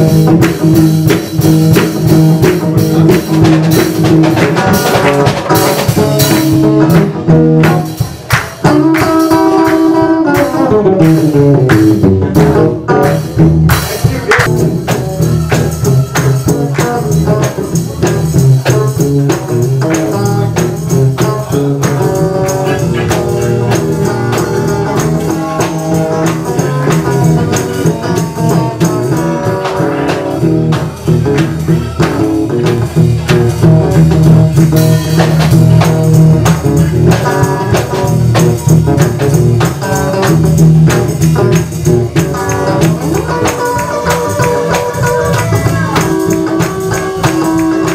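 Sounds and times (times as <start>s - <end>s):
gospel band playing: 0.0s - 47.9s.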